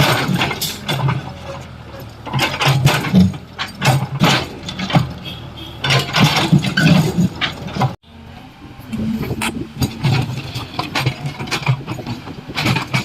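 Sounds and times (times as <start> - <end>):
concrete crunching and scraping: 0.0 - 8.0, 8.9 - 13.0
excavator diesel engine: 0.0 - 13.0.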